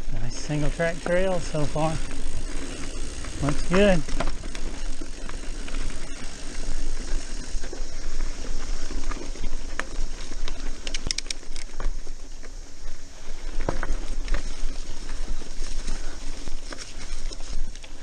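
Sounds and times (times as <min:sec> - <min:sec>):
bike rattling and clicking: 0:00.0 - 0:18.0
bike tyres rushing on dirt: 0:00.0 - 0:18.0.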